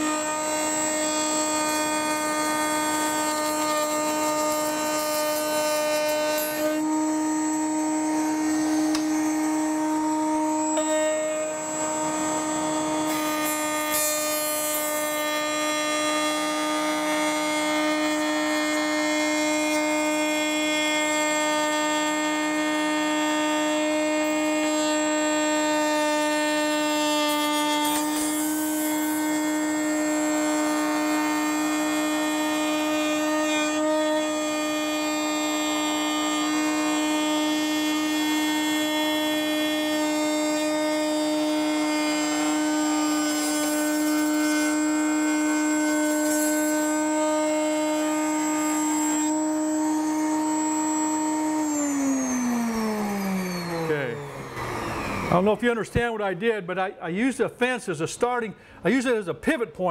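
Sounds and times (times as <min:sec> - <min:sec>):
router winding down: 0:00.0 - 0:55.6
router high whine: 0:00.0 - 0:56.0
router cutting wood: 0:00.0 - 0:56.6.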